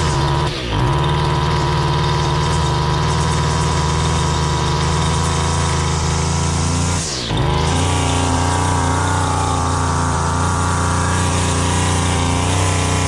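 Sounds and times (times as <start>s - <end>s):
string trimmer engine idling: 0.0s - 13.0s.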